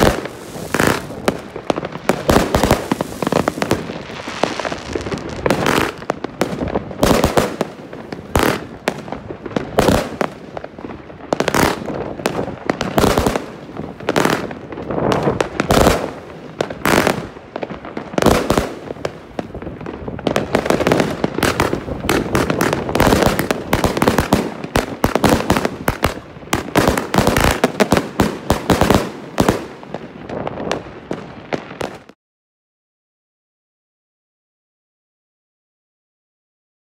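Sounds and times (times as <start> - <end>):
firework aerial bursts: 0.0 - 32.2.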